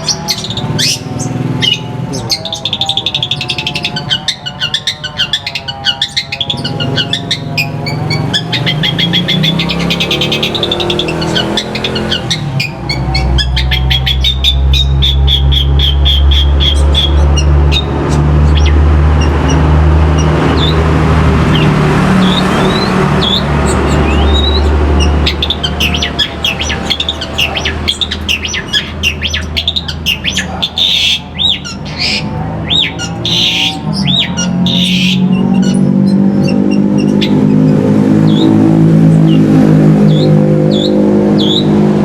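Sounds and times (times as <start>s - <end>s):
bird chirping and whistling: 0.0s - 41.8s
low engine hum: 6.6s - 42.0s.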